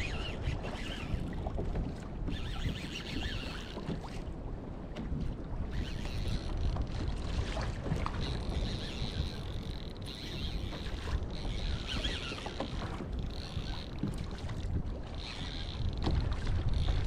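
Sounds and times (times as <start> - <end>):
water lapping against kayak hull: 0.0 - 17.0
wind rumble on microphone: 0.0 - 17.0.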